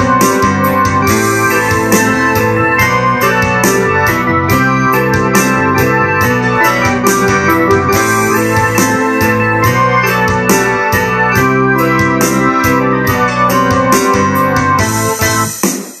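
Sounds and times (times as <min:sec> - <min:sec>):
synthesizer chords: 0:00.0 - 0:15.6.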